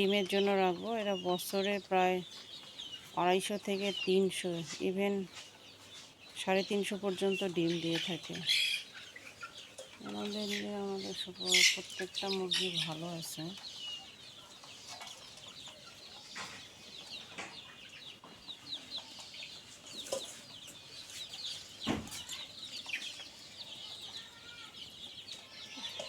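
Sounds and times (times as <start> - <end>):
young chickens peeping and clucking: 0.0 - 26.0.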